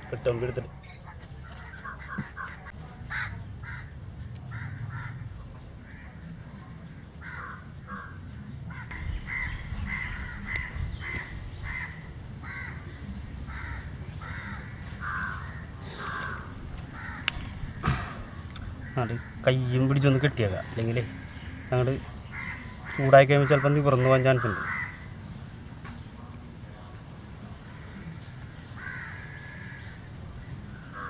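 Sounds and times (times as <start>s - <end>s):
crows cawing: 1.8s - 6.2s, 7.2s - 25.2s, 27.6s - 31.0s.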